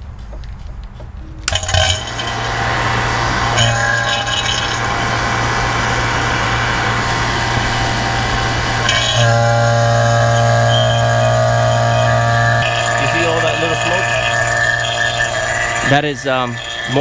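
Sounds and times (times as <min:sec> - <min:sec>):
vacuum pump motor hum: 0:01.4 - 0:17.0.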